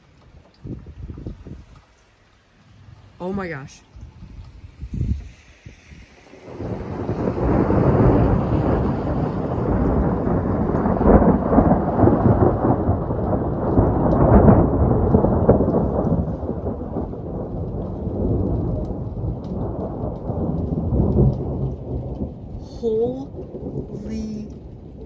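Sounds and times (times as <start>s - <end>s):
steady rain: 0.0s - 25.0s
thunder rumbling: 2.6s - 25.0s.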